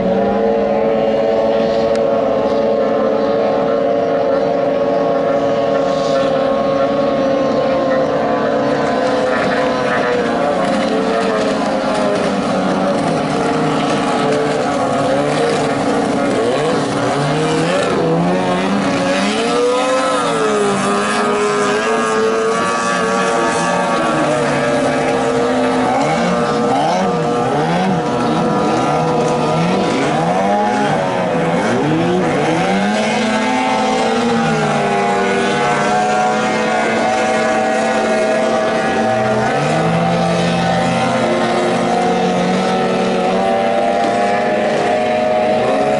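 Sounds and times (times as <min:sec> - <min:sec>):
outboard motors racing: 0:00.0 - 0:45.9.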